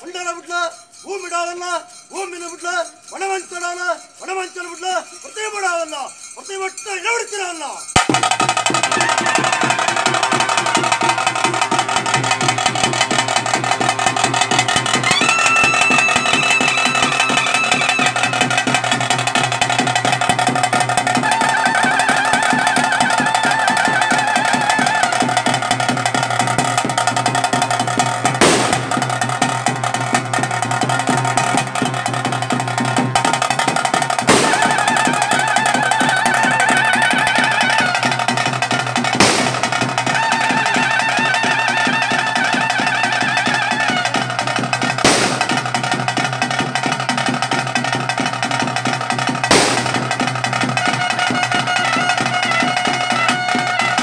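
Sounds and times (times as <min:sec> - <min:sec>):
fast drumming with rolls: 0:07.8 - 0:54.0.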